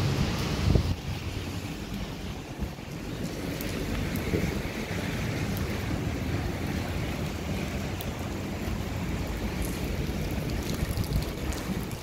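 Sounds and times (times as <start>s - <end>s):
outdoor ambience: 0.0s - 12.0s
wind buffeting microphone: 0.0s - 12.0s.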